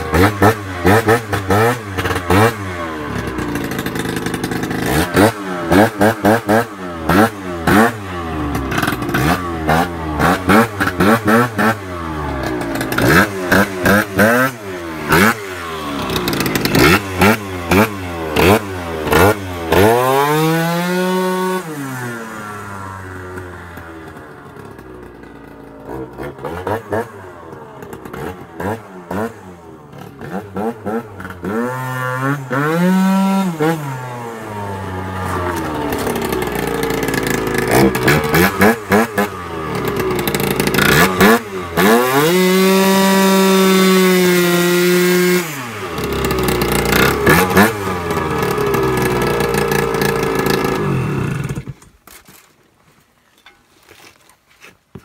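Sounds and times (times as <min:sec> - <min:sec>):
scooter engine revving: 0:00.0 - 0:52.0.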